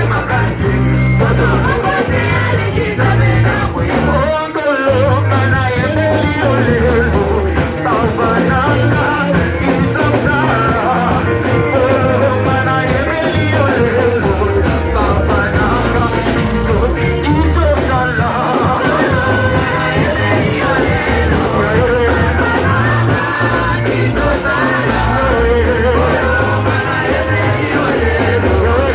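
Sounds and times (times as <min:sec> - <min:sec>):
band playing worship music: 0:00.0 - 0:28.9
voices singing: 0:00.0 - 0:28.9.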